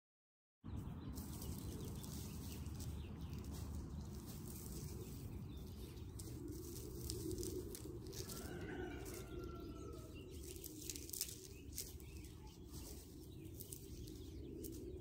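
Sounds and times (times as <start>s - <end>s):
wind rumble on microphone: 0.7s - 15.0s.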